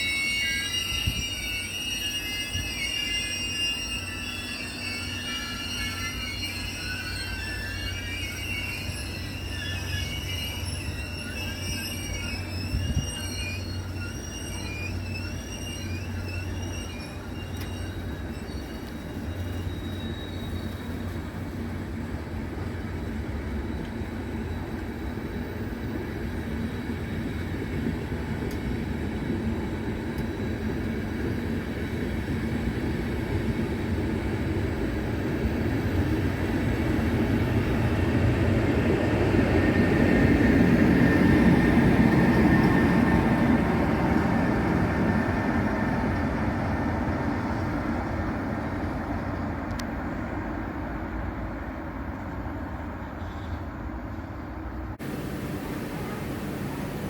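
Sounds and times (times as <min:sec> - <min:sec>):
metallic squeal of train wheels: 0:00.0 - 0:49.7, 0:53.0 - 0:57.0
train rumbling: 0:00.0 - 0:57.0.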